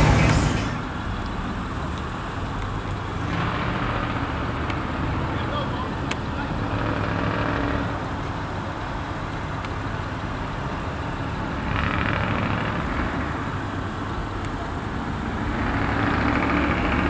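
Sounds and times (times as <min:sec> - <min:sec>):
road hiss: 0:00.0 - 0:17.0
vehicle engine rumble: 0:00.0 - 0:17.0.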